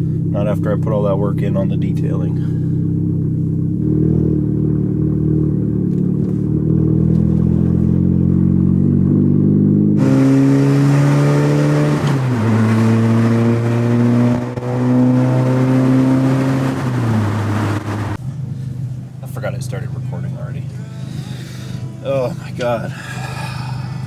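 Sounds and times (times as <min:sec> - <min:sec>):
car engine accelerating: 0:00.0 - 0:24.0
road and wind noise: 0:00.0 - 0:24.0.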